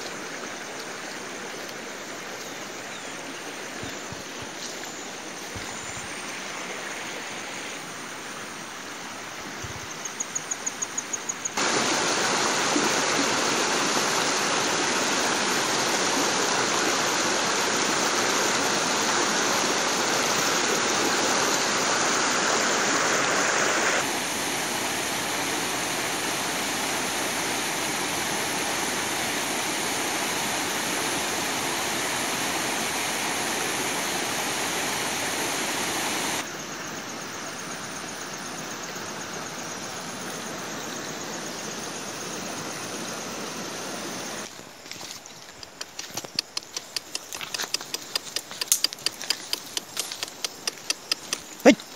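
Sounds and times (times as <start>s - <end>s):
stream rushing over stones: 0.0s - 9.6s, 11.5s - 36.6s, 37.7s - 51.9s.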